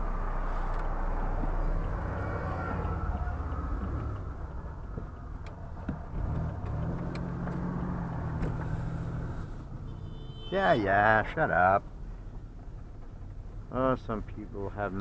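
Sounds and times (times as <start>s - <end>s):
vehicle engine humming inside cab: 0.0s - 15.0s.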